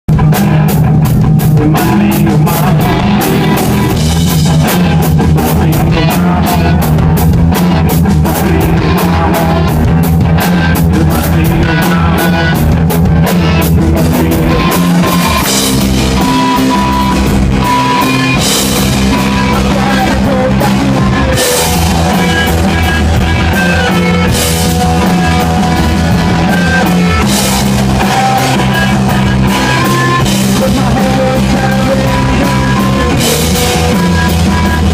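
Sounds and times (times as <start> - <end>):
held guitar notes: 0.1 - 34.9
rock band playing live: 0.1 - 34.9
fast drum hits: 0.2 - 34.9.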